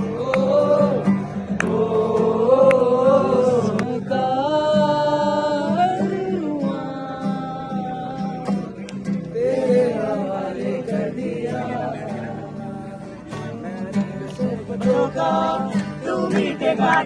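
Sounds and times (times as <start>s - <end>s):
guitar accompaniment: 0.0s - 17.0s.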